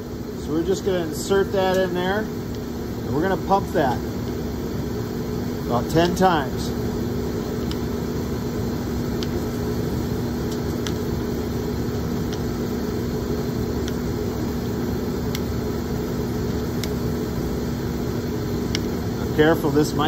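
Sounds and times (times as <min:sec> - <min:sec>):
furnace burner drone: 0:00.0 - 0:20.0.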